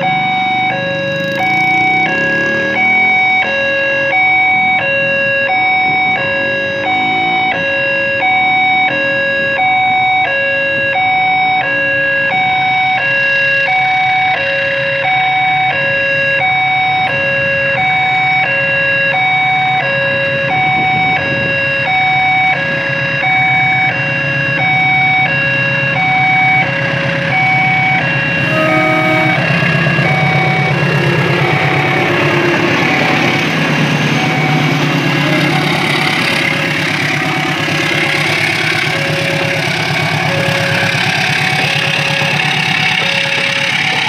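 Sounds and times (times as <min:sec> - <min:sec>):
level crossing two-tone alarm: 0:00.0 - 0:44.0.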